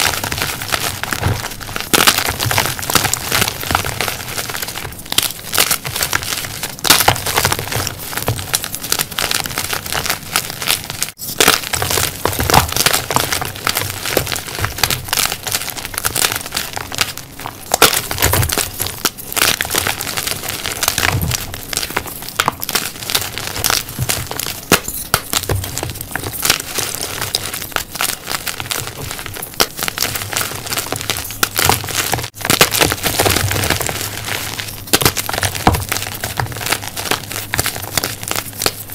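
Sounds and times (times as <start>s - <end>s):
chalk blocks crunching by hand: 0.0s - 38.9s.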